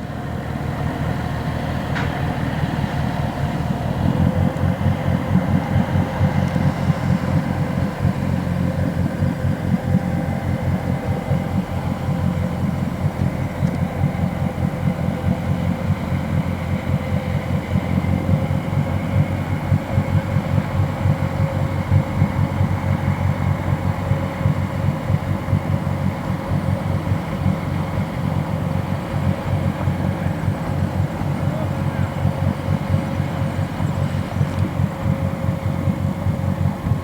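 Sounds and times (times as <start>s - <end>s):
boat diesel engine throbbing: 0.0s - 37.0s.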